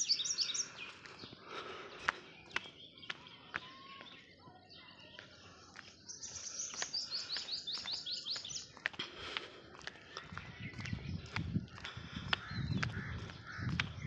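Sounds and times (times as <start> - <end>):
footsteps on brick path: 0.1 - 14.0.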